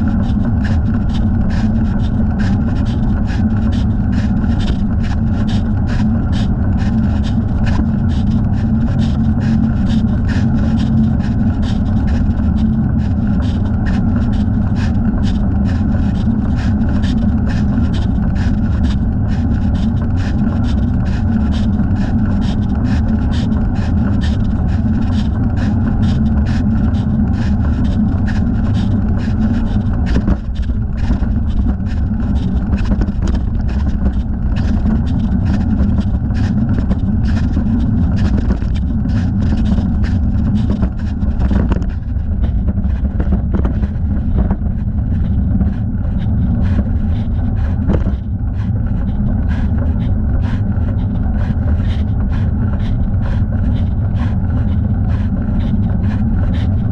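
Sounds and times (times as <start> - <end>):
bicycle riding rumble: 0.0 - 56.9.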